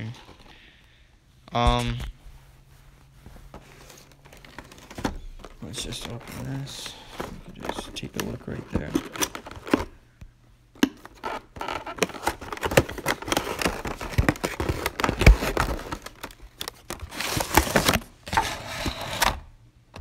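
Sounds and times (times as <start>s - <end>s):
cardboard packaging rustling: 2.3s - 10.0s, 10.9s - 19.4s.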